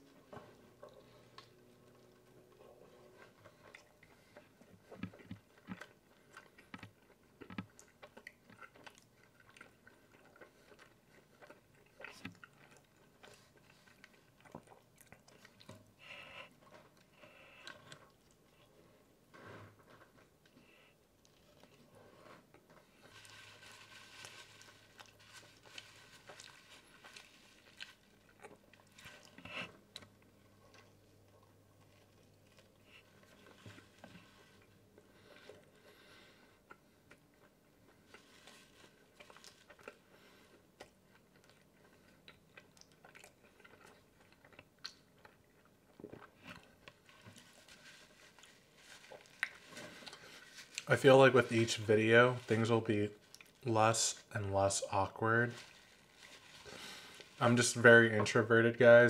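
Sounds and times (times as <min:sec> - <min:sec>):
biting and chewing food: 0:00.0 - 0:58.2.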